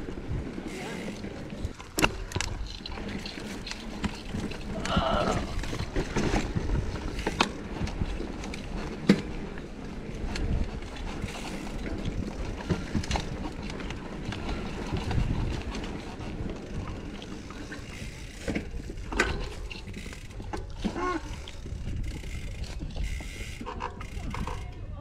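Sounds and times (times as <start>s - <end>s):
bike knocks and rattles: 0.0s - 25.0s
bike tyres rumbling on dirt: 0.0s - 25.0s.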